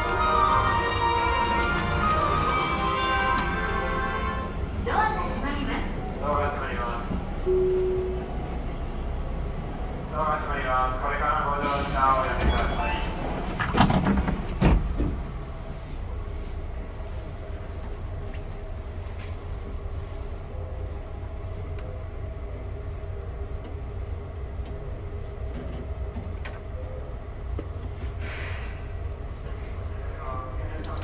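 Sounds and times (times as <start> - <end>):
train car rumble and hum: 0.0 - 31.0.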